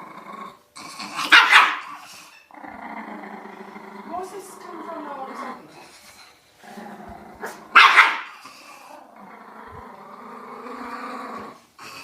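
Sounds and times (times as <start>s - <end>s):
dog grunting and growling: 0.0s - 12.0s.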